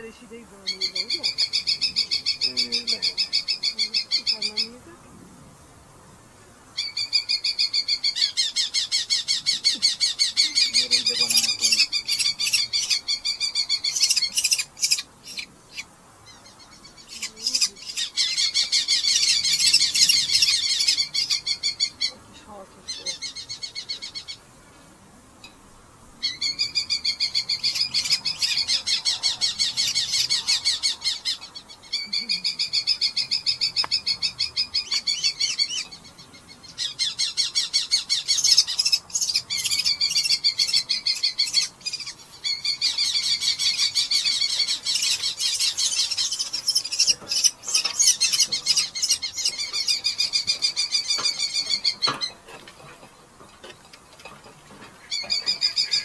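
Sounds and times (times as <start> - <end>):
falcons chattering calls: 0.0 - 5.0, 6.8 - 24.5, 26.2 - 56.0.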